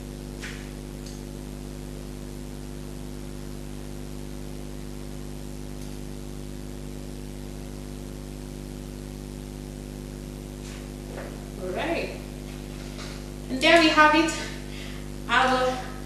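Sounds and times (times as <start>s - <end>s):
electrical hum with hiss: 0.0s - 16.0s.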